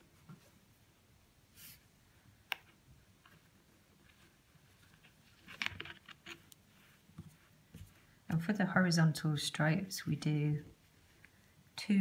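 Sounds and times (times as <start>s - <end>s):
soft rustle: 0.0s - 11.9s.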